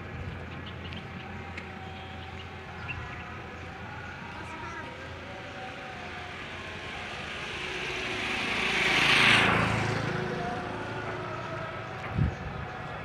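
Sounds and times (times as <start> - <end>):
vehicle passing by: 2.2 - 13.0.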